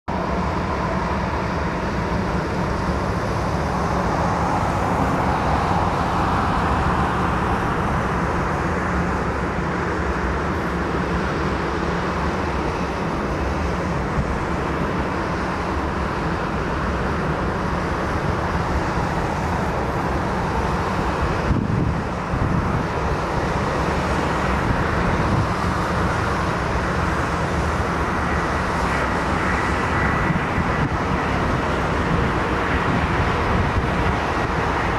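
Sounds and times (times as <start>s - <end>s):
jet engines roaring: 0.1s - 34.9s.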